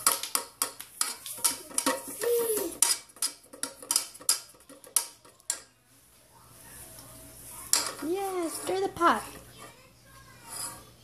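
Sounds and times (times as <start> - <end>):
utensil scraping in saucepan: 0.0 - 5.7, 6.6 - 11.0.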